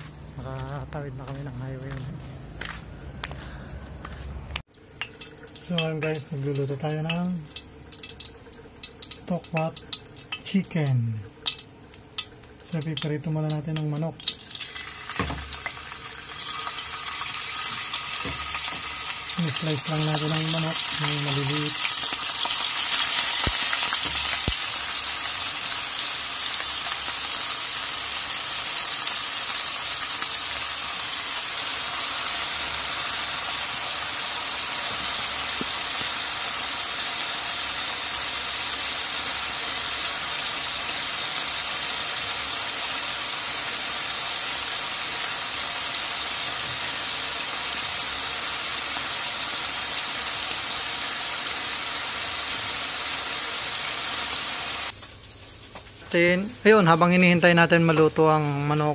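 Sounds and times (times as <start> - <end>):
chicken sizzling in oil: 4.8 - 58.9.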